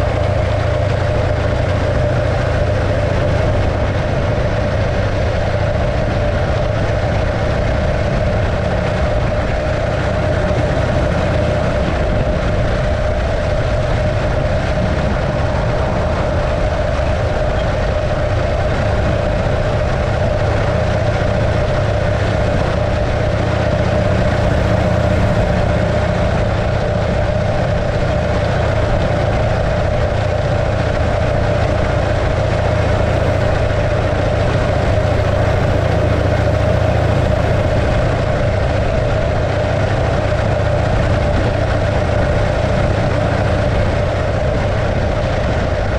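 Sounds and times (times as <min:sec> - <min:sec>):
motorcycle engine running steadily: 0:00.0 - 0:45.9.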